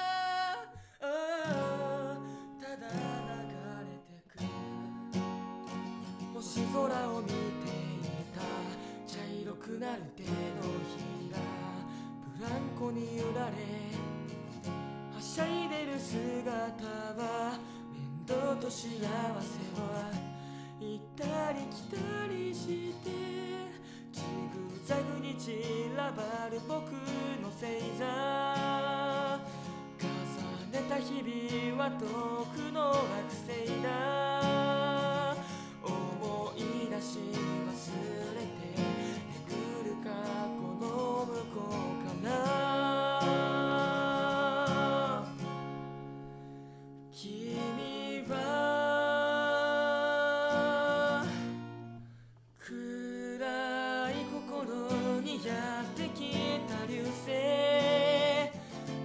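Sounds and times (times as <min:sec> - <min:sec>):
man singing: 0:00.0 - 0:05.5, 0:06.1 - 0:14.3, 0:15.1 - 0:45.6, 0:47.1 - 0:51.6, 0:52.6 - 0:59.0
acoustic guitar strumming: 0:00.0 - 0:52.3, 0:53.3 - 0:59.0.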